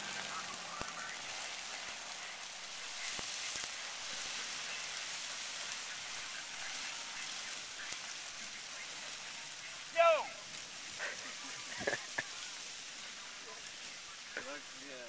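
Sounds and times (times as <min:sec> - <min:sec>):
dry seed stalks crackling: 0:00.0 - 0:15.0.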